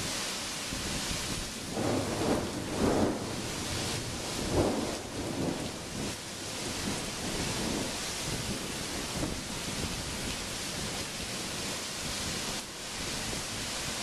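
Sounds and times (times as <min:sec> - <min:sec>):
heavy rain hissing: 0:00.0 - 0:14.0
low gusting rumble: 0:00.7 - 0:14.0.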